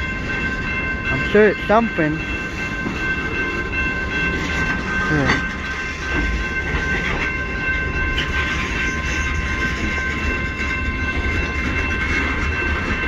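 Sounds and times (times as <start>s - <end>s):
freight train cars rumbling: 0.0s - 13.0s.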